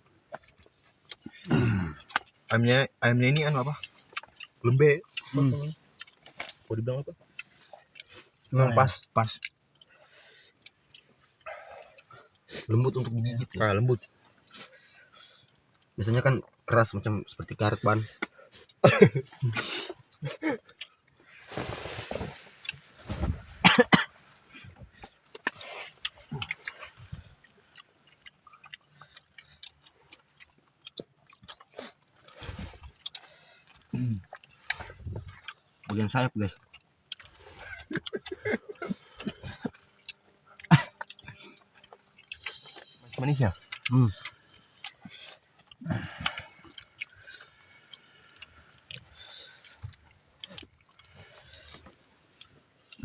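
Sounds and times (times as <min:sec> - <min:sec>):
person chewing with wet smacks: 0:00.2 - 0:14.8, 0:24.6 - 0:53.0.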